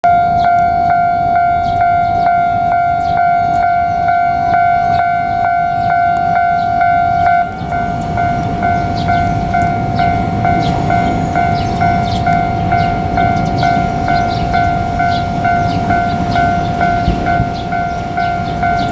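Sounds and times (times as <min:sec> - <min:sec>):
level-crossing warning bell ringing: 0:00.0 - 0:18.9.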